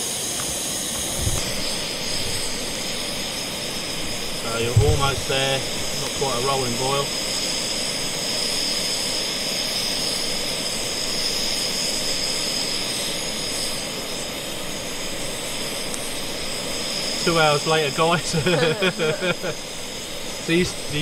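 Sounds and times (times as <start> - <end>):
gas stove burner hissing: 0.0 - 21.0
water nearly boiling: 0.9 - 21.0.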